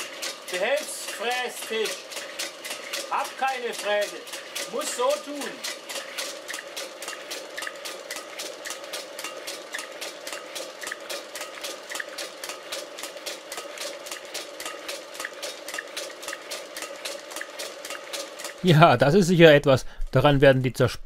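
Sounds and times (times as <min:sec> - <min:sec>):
fast ticking of metal cutting: 0:00.0 - 0:19.6
machine hum: 0:00.0 - 0:20.1.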